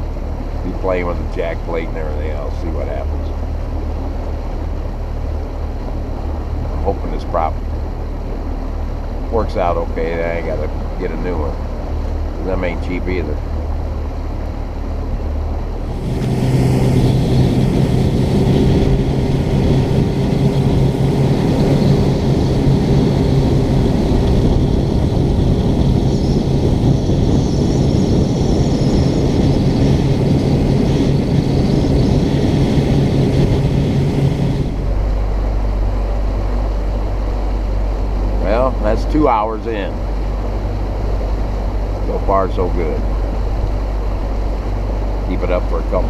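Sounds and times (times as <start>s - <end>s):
outboard motor running: 0.0s - 46.0s
water rushing: 0.0s - 46.0s
wind: 0.0s - 46.0s.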